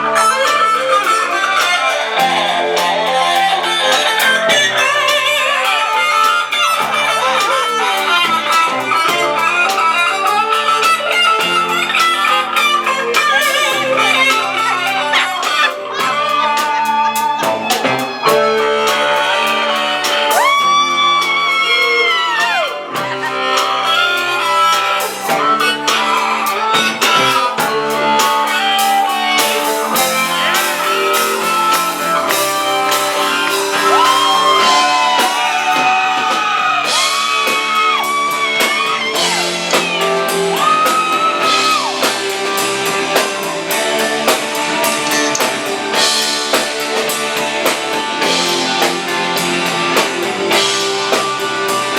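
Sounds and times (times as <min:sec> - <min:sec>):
drums: 0:00.0 - 0:51.9
electric guitar bending notes: 0:00.0 - 0:51.9.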